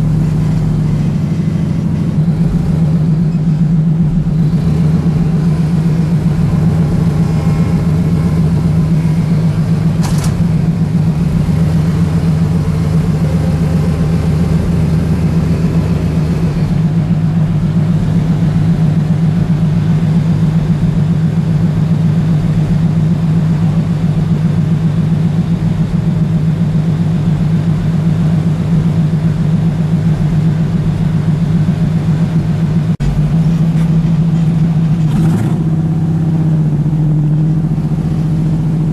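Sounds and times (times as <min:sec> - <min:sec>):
truck engine running at low revs: 0:00.0 - 0:38.9.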